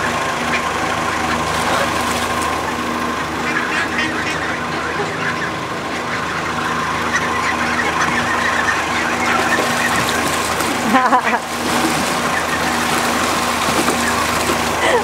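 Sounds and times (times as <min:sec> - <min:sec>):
engine humming steadily: 0:00.0 - 0:15.0
young birds peeping: 0:00.0 - 0:15.0.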